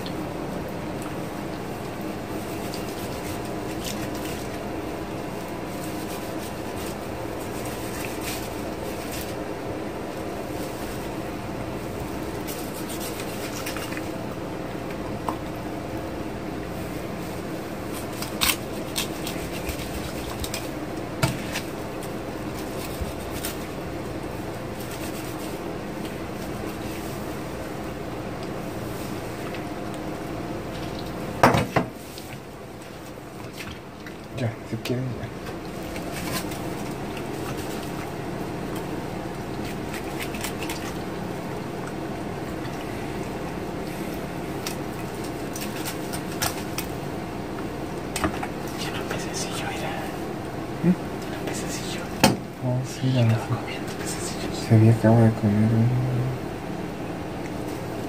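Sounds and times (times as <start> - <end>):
appliance hum: 0.0 - 58.0.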